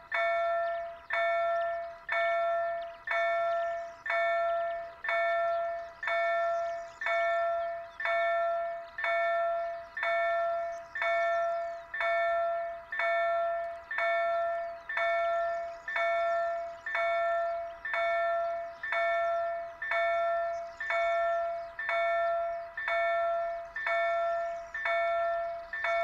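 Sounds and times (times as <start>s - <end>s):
level crossing bell ringing: 0.0s - 26.0s.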